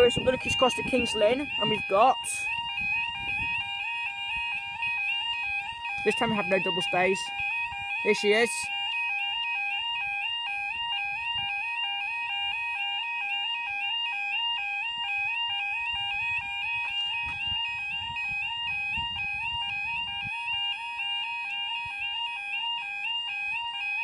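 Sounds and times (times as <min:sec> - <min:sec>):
two-tone warbling warning alarm: 0:00.0 - 0:24.0.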